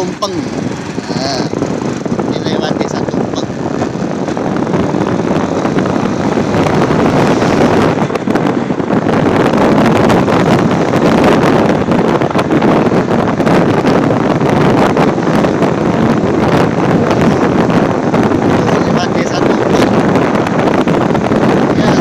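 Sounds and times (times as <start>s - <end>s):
road vehicle rumble: 0.0s - 22.0s
wind buffeting microphone: 0.0s - 22.0s.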